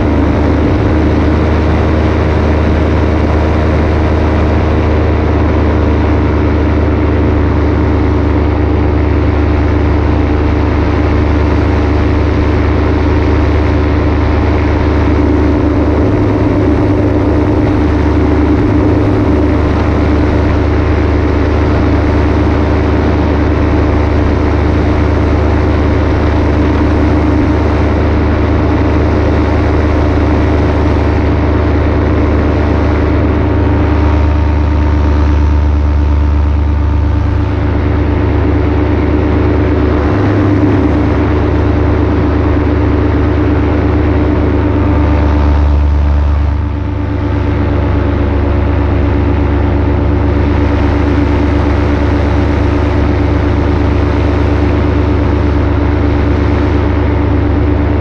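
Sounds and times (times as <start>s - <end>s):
paramotor engine droning: 0.0s - 58.0s.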